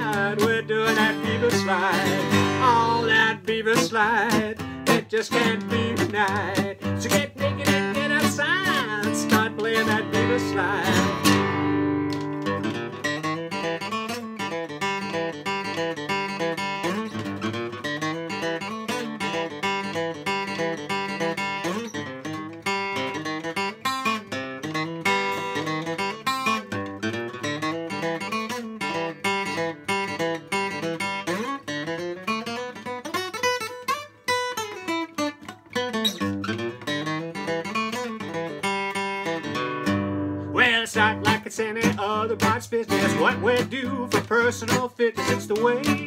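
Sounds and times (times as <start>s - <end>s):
acoustic guitar picking and strumming: 0.0s - 46.0s.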